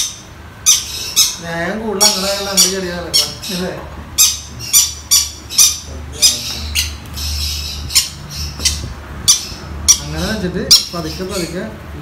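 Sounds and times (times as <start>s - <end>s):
parrot chick begging squawks: 0.0s - 11.5s.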